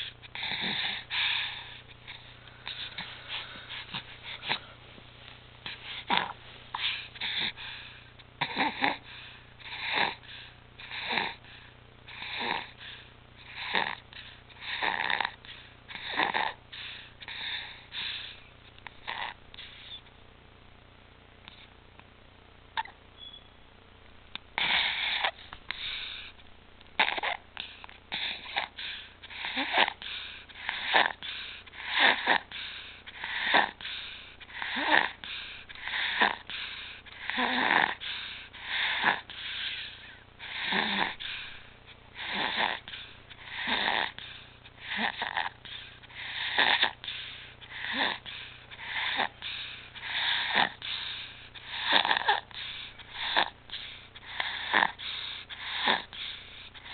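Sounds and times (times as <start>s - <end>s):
infant noisy breathing: 0.0s - 5.0s, 5.6s - 20.1s, 24.5s - 56.9s.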